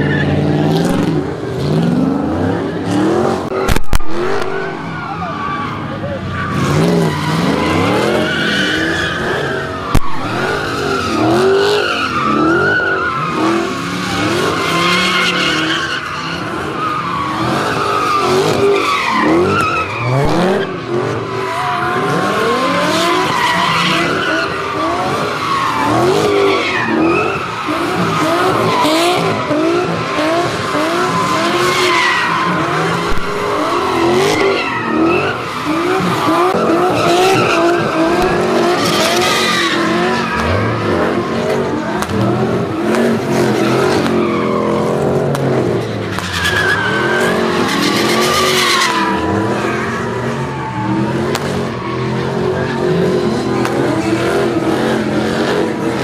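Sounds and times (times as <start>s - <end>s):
car engine revving: 0.0s - 56.0s
tyres squealing: 4.6s - 55.2s.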